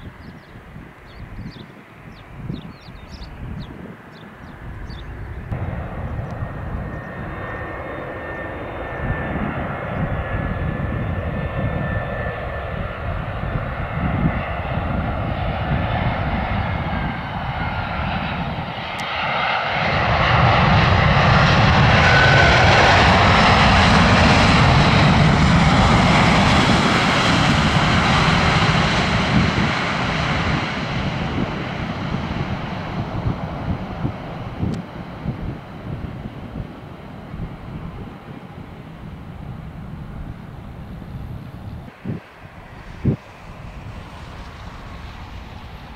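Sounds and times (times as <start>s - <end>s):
faint jet whine: 0.0s - 45.9s
jet engine roar: 0.0s - 45.9s
departing jet climbing: 3.3s - 45.9s.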